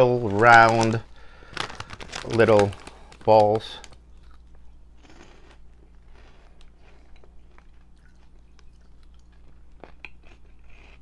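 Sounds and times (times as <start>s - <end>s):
crunching and chewing snacks: 0.1s - 11.0s.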